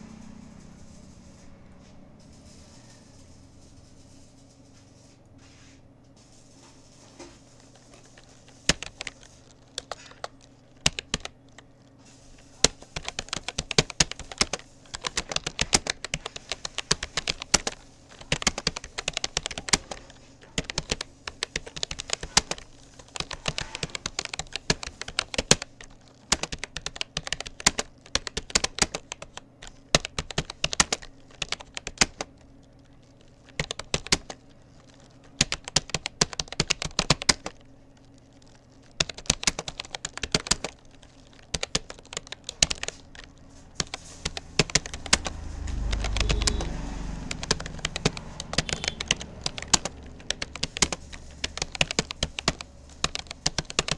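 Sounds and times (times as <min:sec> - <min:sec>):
faint steady hum: 0:00.0 - 0:53.9
keyboard typing clicks: 0:06.4 - 0:53.9.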